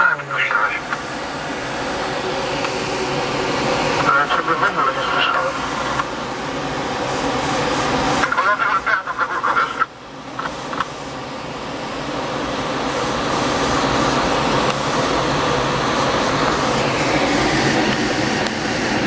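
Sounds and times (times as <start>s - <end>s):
aircraft cabin engine and airflow noise: 0.0s - 19.0s.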